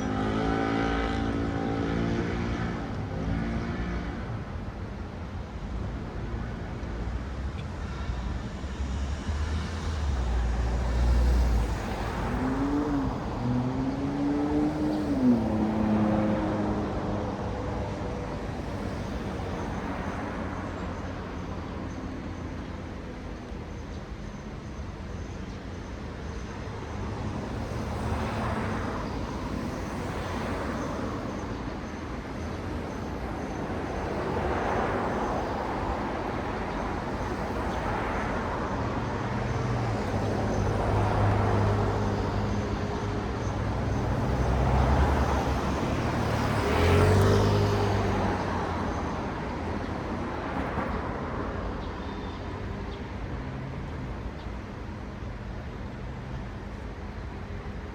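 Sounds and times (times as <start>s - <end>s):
cars passing: 0.0s - 57.9s.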